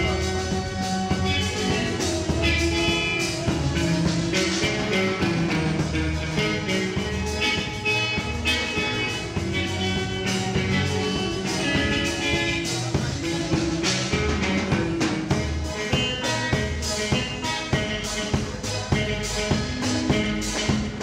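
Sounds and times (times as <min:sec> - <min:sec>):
guitar: 0:00.0 - 0:21.0
steady drum beat: 0:00.0 - 0:21.0.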